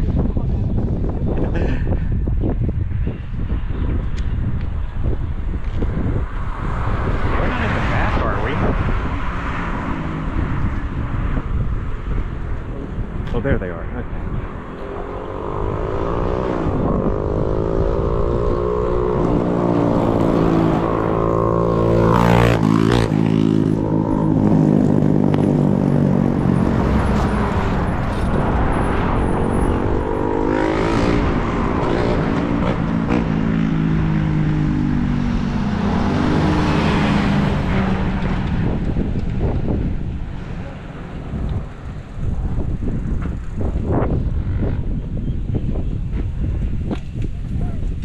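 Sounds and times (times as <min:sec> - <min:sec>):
road vehicles passing: 0:00.0 - 0:48.0.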